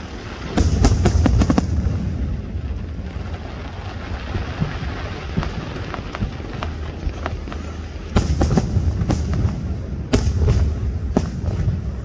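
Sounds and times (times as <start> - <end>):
fireworks loud sharp bangs: 0.0 - 12.0
fireworks rumble and crackling: 0.0 - 12.0.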